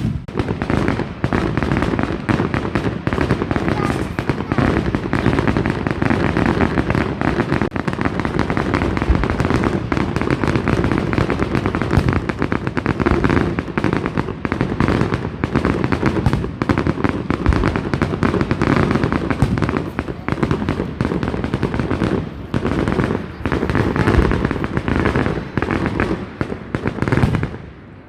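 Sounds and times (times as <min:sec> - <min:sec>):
continuous crackling bangs: 0:00.0 - 0:28.0.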